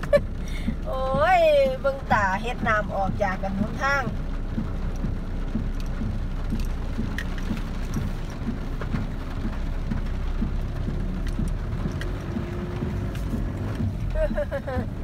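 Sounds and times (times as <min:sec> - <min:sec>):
heavy rain on car roof: 0:00.0 - 0:15.0
vehicle driving on dirt road: 0:00.0 - 0:15.0.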